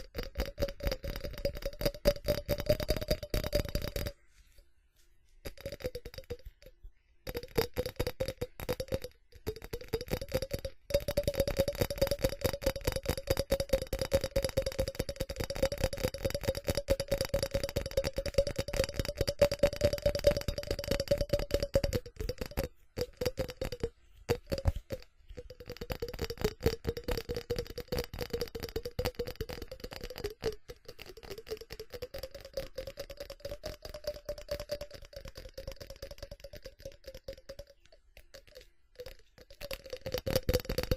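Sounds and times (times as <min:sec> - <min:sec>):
fast tapping on ceramic: 0:00.0 - 0:04.2, 0:05.4 - 0:40.9.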